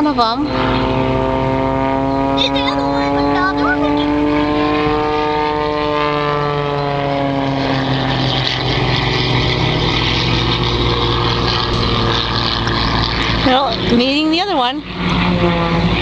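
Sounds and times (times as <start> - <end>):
propeller airplane engine drone: 0.0 - 16.0.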